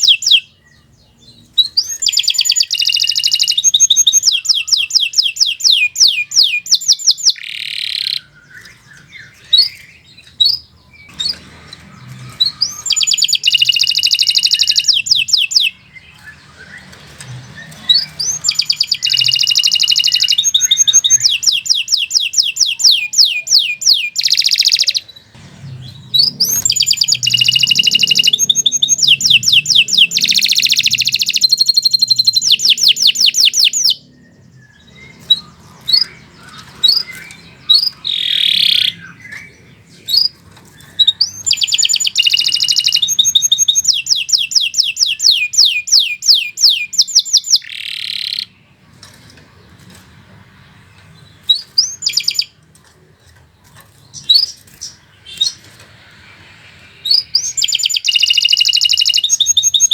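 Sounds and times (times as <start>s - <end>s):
canary chirps: 0.0s - 52.9s, 53.6s - 59.9s
canary singing trills: 0.0s - 52.9s, 53.6s - 59.9s.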